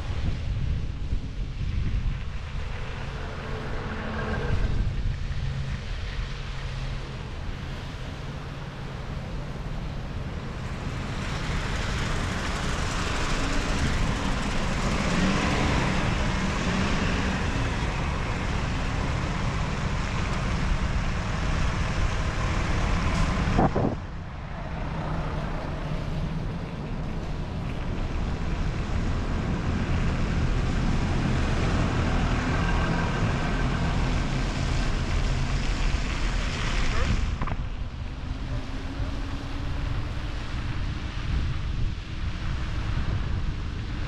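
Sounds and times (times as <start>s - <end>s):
bus engine passing: 0.0s - 44.0s
tyres on wet pavement: 0.0s - 44.0s
wind rumbling on microphone: 0.0s - 44.0s.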